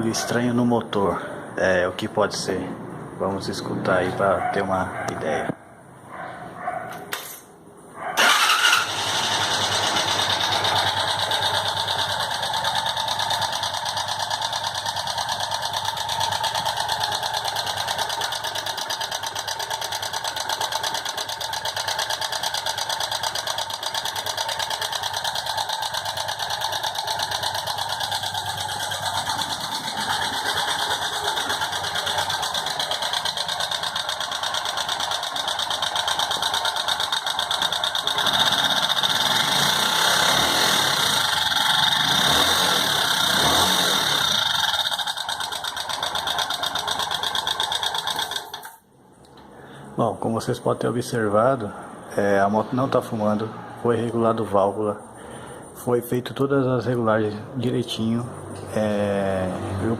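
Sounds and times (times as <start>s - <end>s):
motorcycle engine starting and idling: 8.2s - 59.9s.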